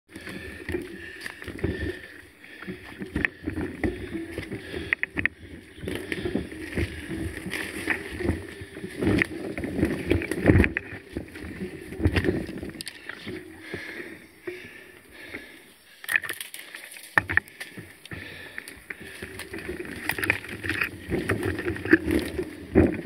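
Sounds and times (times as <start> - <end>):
mountain bike rattling on trail: 0.1 - 23.0.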